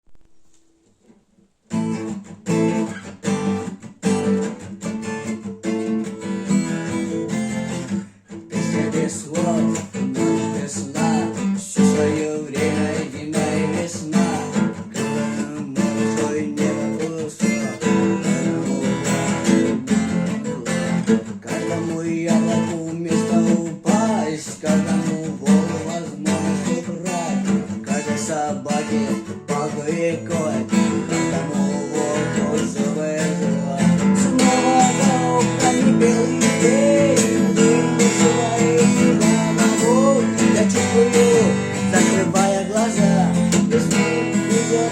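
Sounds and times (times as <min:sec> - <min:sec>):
strummed acoustic guitar: 0:00.0 - 0:44.9.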